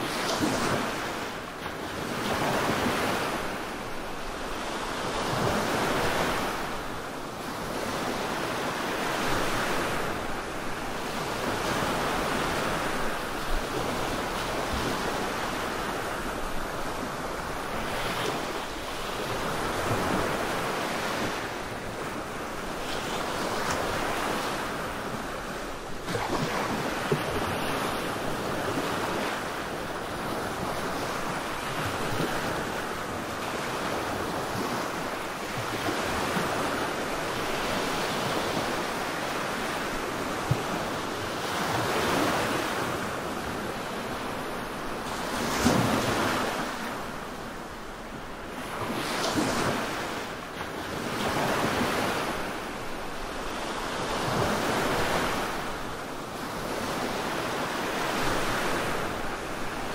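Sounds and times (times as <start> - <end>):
steady rushing noise like surf: 0.0 - 59.9.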